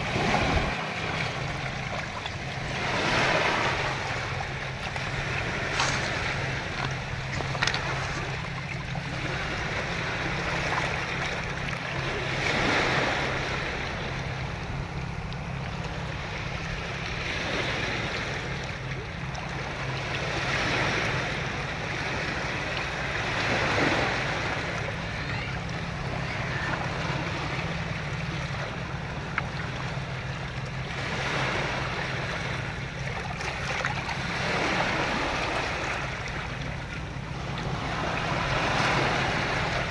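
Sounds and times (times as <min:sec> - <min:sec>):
ocean waves washing in: 0:00.0 - 0:39.9
steady low rumble: 0:00.0 - 0:39.9.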